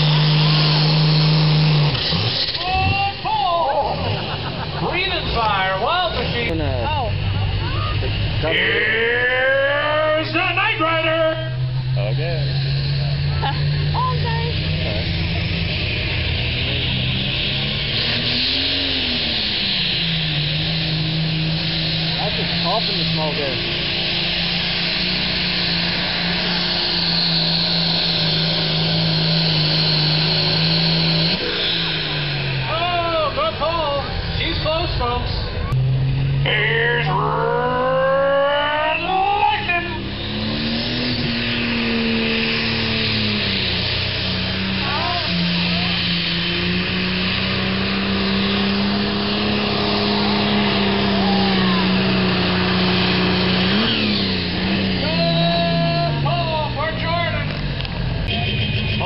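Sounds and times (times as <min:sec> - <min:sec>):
tractor engine at full throttle: 0:00.0 - 0:59.0.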